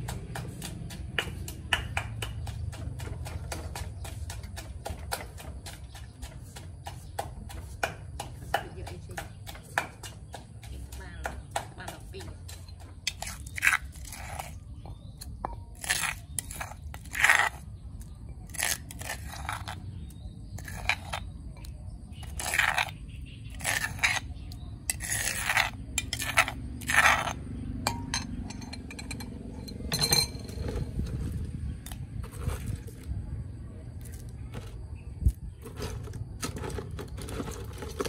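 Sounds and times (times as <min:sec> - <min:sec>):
metal spoon scraping stone mortar: 0:00.0 - 0:33.2, 0:34.0 - 0:38.0.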